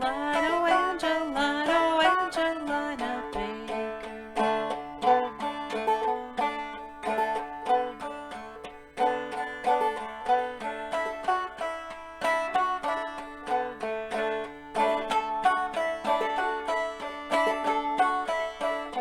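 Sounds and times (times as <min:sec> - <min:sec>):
banjo plucking melody: 0:00.0 - 0:19.0.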